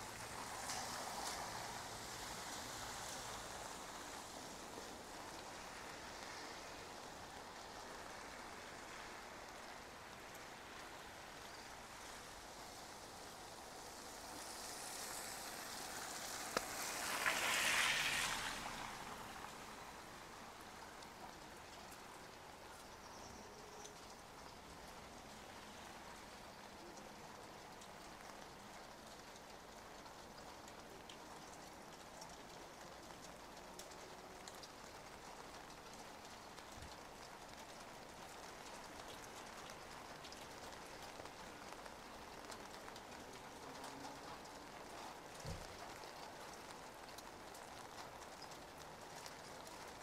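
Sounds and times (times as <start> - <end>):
light rain on wet pavement: 0.0 - 50.0.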